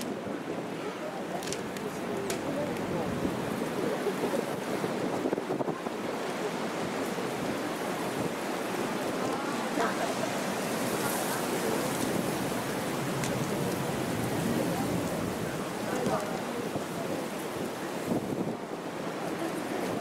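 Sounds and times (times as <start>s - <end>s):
faint indistinct voices: 0.0s - 20.0s
steady background noise: 0.0s - 20.0s.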